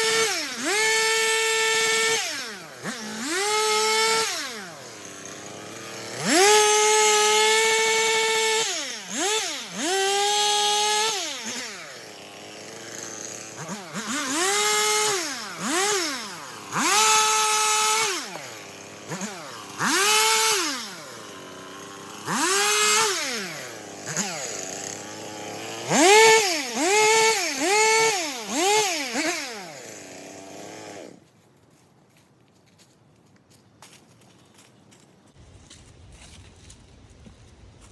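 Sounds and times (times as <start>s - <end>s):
chainsaw engine revving: 0.0s - 31.2s.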